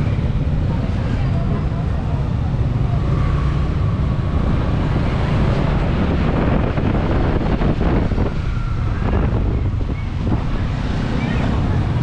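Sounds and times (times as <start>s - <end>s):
passing street traffic: 0.0s - 12.0s
wind buffeting microphone: 0.0s - 12.0s.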